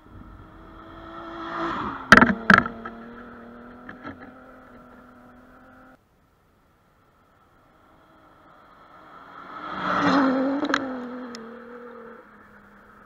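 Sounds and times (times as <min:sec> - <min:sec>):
rally car engine passing: 0:00.0 - 0:06.0, 0:07.2 - 0:13.0.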